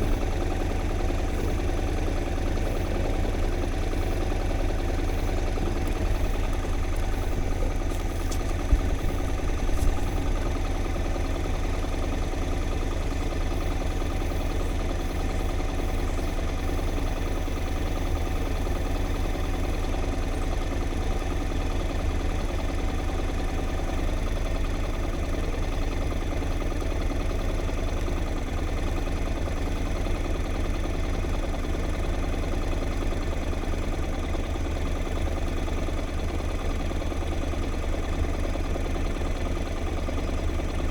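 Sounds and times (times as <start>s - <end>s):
engine hum with low rumble: 0.0s - 40.9s.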